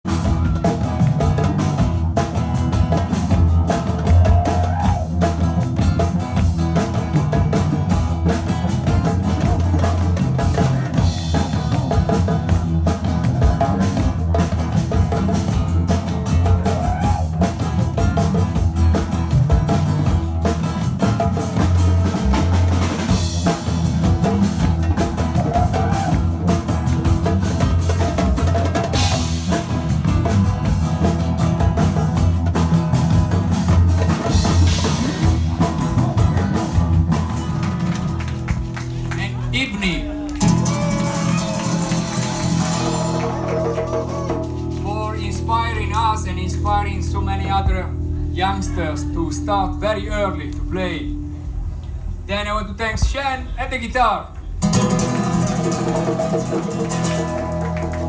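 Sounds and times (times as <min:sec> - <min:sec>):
double bass: 0:00.0 - 0:39.6, 0:40.4 - 0:52.6, 0:54.4 - 0:58.0
guitar: 0:00.0 - 0:52.3, 0:54.5 - 0:58.0
drum kit: 0:00.0 - 0:58.0
hand drums: 0:00.1 - 0:39.1, 0:40.3 - 0:48.2, 0:54.6 - 0:58.0.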